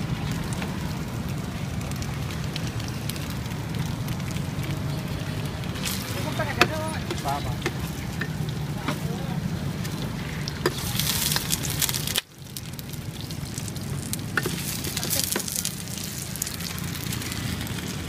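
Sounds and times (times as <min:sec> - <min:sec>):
dough frying in oil: 0:00.0 - 0:18.0
wood fire crackles: 0:00.0 - 0:18.0.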